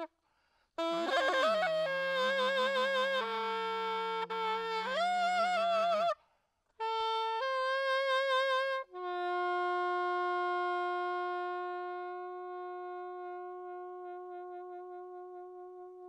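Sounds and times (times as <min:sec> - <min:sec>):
solo saxophone: 0:00.0 - 0:16.0.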